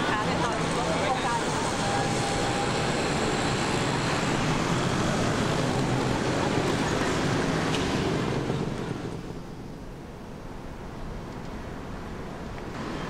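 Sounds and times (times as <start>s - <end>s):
cars passing: 0.0s - 9.6s, 11.6s - 13.0s
road traffic noise: 0.0s - 13.0s.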